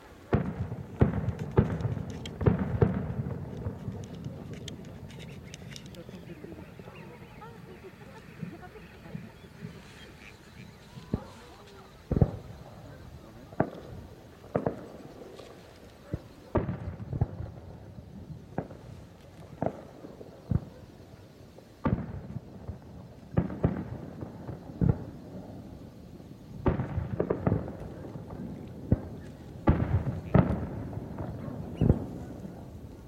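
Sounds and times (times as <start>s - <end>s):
firework shells booming: 0.0s - 33.0s.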